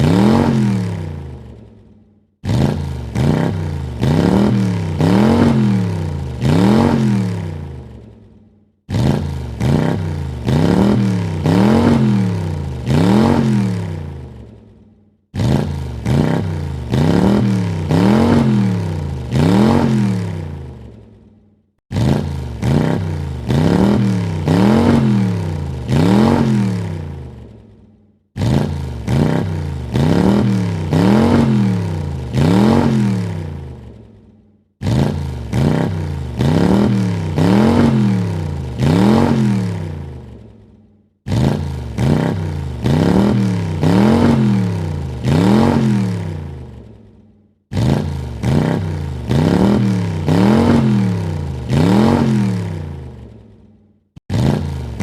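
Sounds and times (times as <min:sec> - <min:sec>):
car engine revving: 0:00.0 - 0:01.6, 0:02.4 - 0:08.1, 0:08.9 - 0:14.6, 0:15.3 - 0:21.1, 0:21.9 - 0:27.7, 0:28.4 - 0:34.1, 0:34.8 - 0:40.6, 0:41.3 - 0:47.0, 0:47.7 - 0:53.4, 0:54.3 - 0:55.0.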